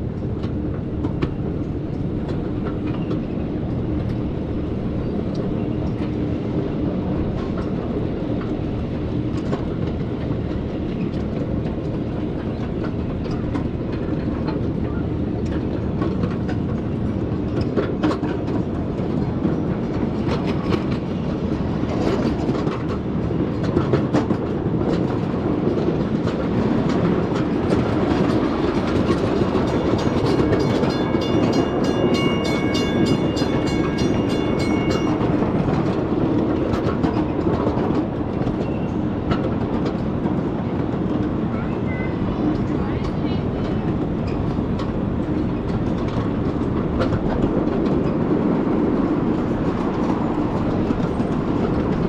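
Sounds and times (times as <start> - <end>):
miniature train rolling on track: 0.0 - 52.0
wheels clicking over rail joints: 0.0 - 52.0.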